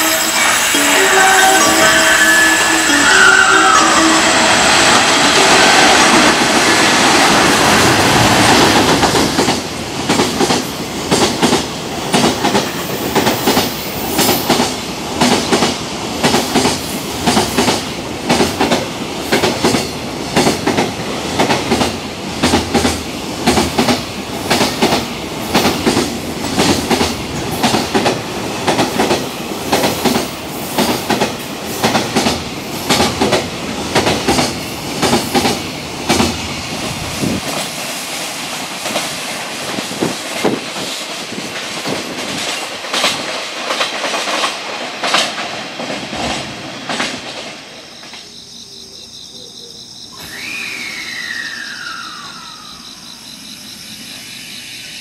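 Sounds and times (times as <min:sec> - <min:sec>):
freight train rumble: 0:00.0 - 0:48.3.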